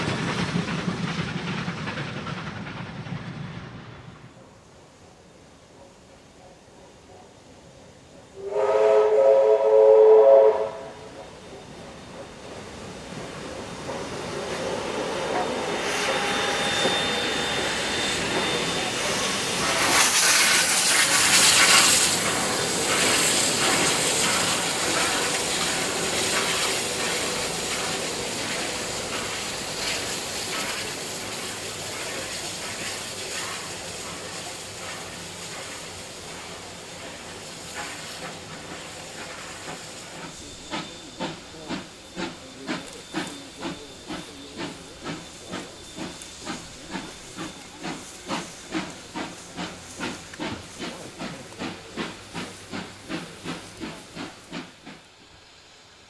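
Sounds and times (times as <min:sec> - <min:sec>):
steam hiss: 0:00.0 - 0:56.0
steam locomotive chuffing: 0:00.0 - 0:56.0.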